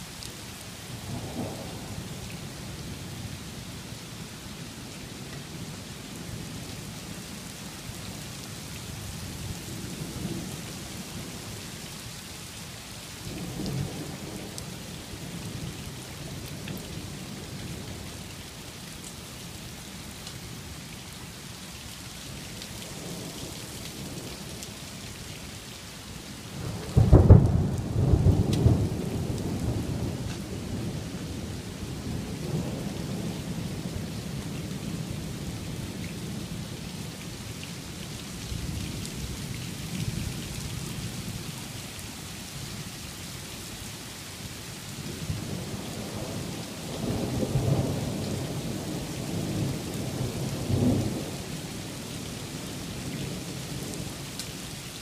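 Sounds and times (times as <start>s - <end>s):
hail and heavy rain: 0.0s - 55.0s.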